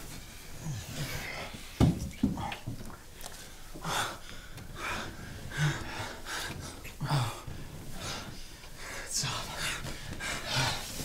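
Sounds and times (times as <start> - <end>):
people breathing heavily and gasping: 0.0 - 11.0.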